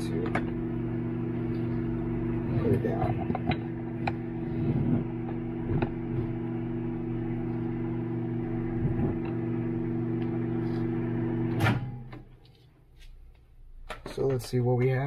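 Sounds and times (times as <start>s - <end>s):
microwave oven humming: 0.0s - 12.5s.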